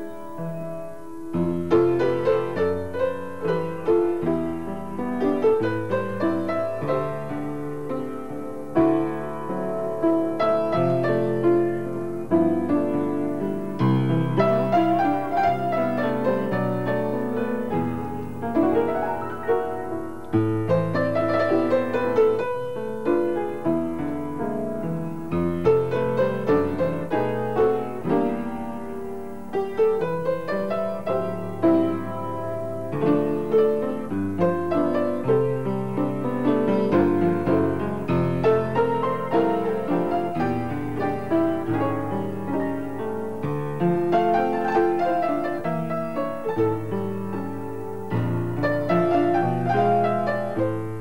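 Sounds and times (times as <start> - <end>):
solo piano: 0.0 - 51.0.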